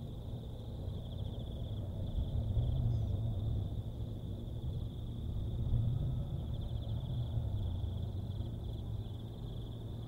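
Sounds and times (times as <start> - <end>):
insects trilling: 0.0 - 10.0
low steady rumble: 0.0 - 10.0.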